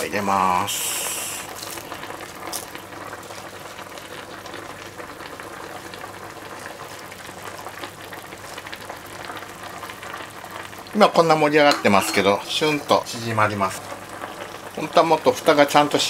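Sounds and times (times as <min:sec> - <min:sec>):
food bubbling in a pan: 0:00.0 - 0:16.0.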